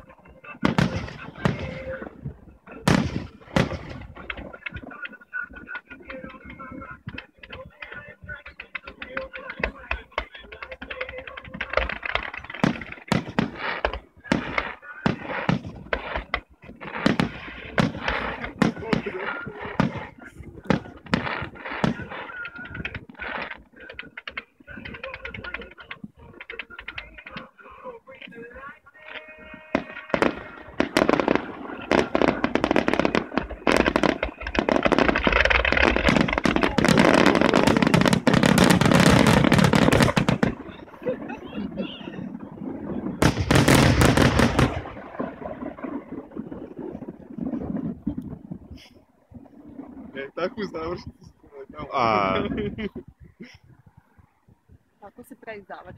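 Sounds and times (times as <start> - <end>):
fireworks crackling: 0.0 - 54.0
firework shells bursting: 0.6 - 27.5, 29.1 - 51.3.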